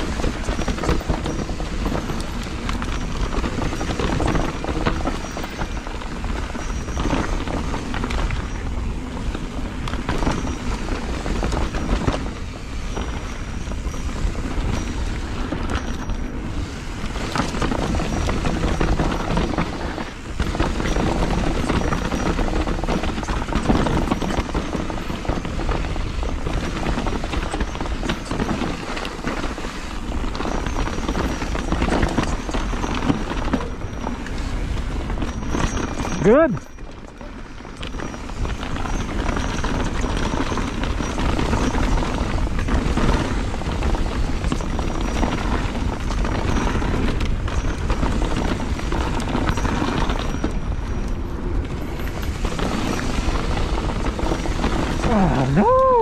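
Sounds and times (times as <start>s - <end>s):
bike rattling over rough trail: 0.0s - 56.0s
wind buffeting microphone: 0.0s - 56.0s.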